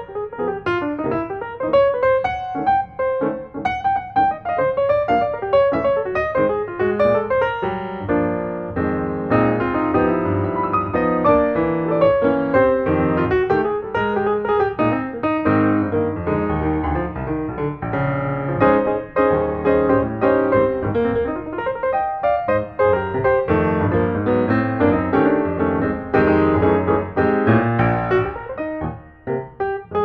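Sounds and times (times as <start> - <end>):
piano playing fast runs: 0.0 - 30.0.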